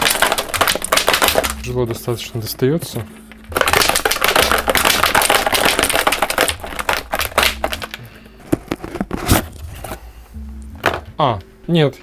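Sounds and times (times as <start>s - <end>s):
packaging crinkling and scraping: 0.0s - 10.2s.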